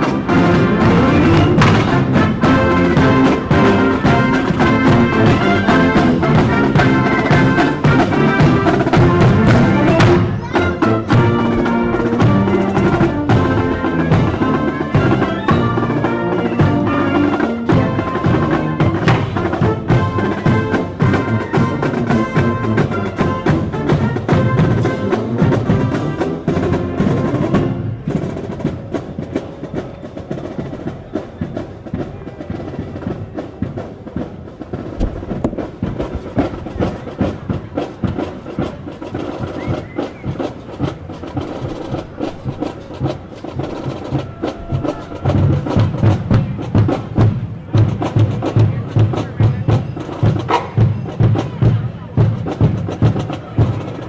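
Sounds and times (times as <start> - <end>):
marching band brass: 0.0 - 54.0
snare and bass drums: 0.0 - 54.0.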